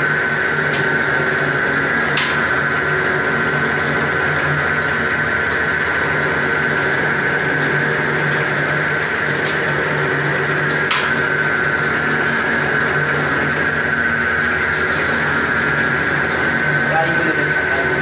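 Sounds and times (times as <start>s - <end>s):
noodle machine whining and humming: 0.0s - 18.0s.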